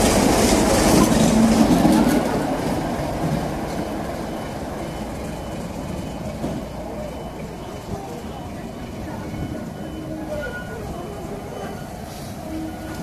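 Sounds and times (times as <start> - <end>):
diesel locomotive passing: 0.0 - 13.0.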